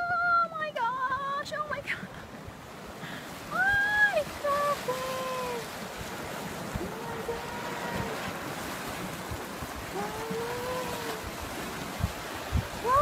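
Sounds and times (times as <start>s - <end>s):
low mud plops: 2.0s - 13.0s.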